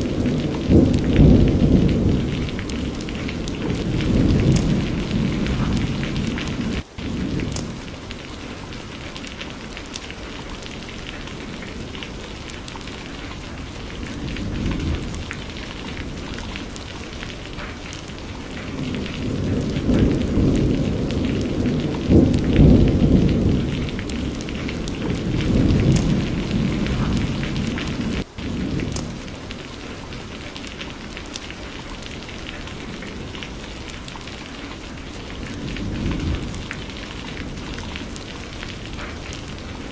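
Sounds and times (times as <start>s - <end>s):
rolling thunder: 0.0s - 30.6s, 34.8s - 39.9s
steady rain: 0.0s - 39.9s.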